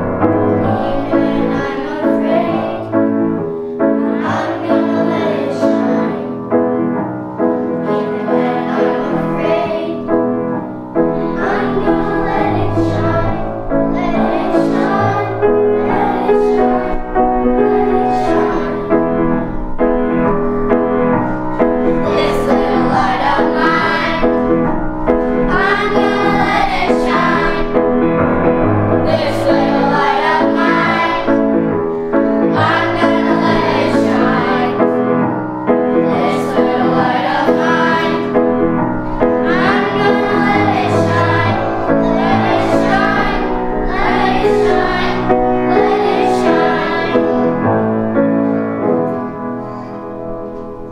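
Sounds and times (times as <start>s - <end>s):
children's choir singing: 0.0s - 50.9s
piano accompaniment: 0.0s - 50.9s.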